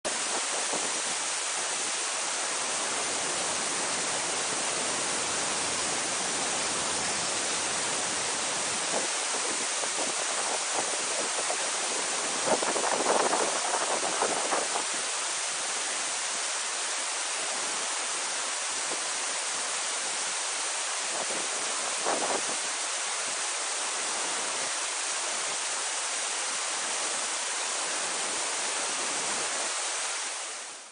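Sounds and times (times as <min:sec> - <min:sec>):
waterfall rushing over rock: 0:00.0 - 0:30.9.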